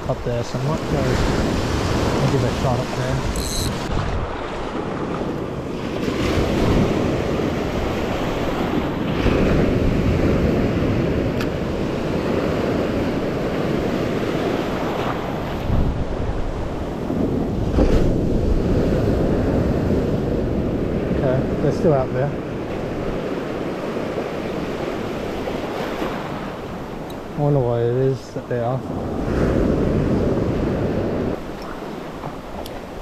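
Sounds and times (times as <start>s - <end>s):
small waves breaking: 0.4s - 21.7s, 22.3s - 27.5s, 28.8s - 33.0s
wind buffeting microphone: 0.8s - 27.4s, 28.6s - 33.0s.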